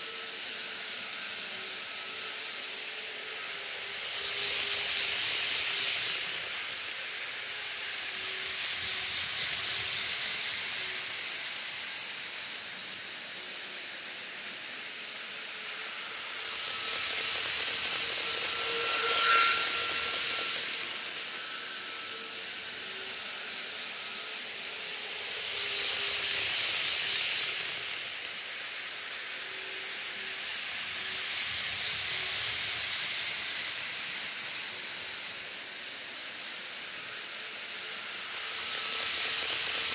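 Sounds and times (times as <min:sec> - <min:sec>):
model trains running on rails: 0:00.0 - 0:39.9.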